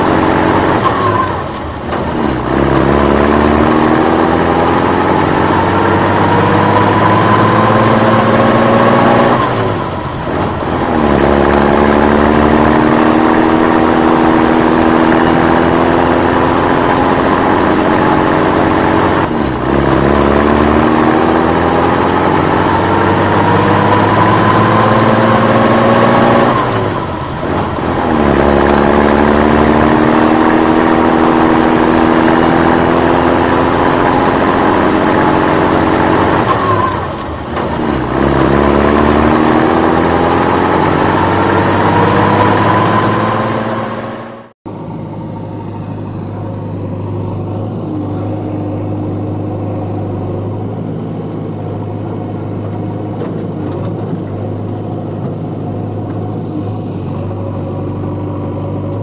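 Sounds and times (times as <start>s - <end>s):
vehicle engine accelerating: 0.0s - 59.0s.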